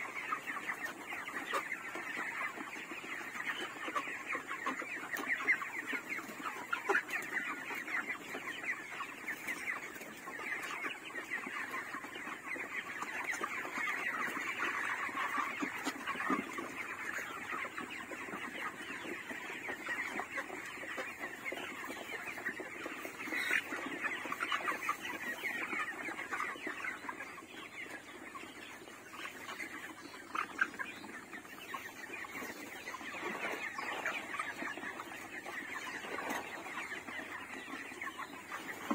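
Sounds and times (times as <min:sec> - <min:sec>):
chickens clucking and cheeping: 0:00.0 - 0:38.9.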